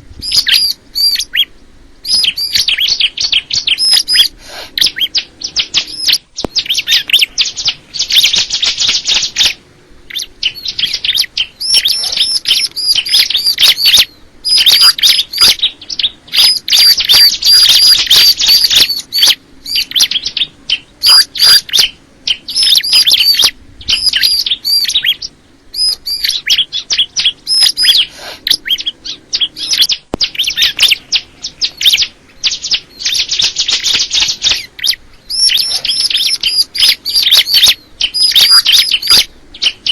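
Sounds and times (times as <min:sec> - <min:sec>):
bird singing high trills: 0:00.2 - 0:39.9.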